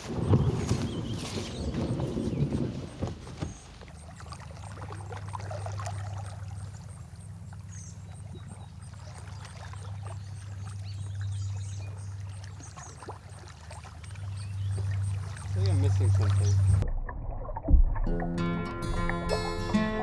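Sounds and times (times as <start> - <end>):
paddle strokes splashing water: 0.0 - 16.8
water dripping: 0.0 - 17.7.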